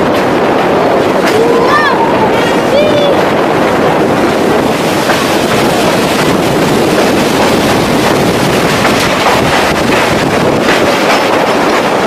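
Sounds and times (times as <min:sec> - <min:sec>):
train coaches rushing noise: 0:00.0 - 0:12.0
wind buffeting microphone: 0:00.0 - 0:12.0.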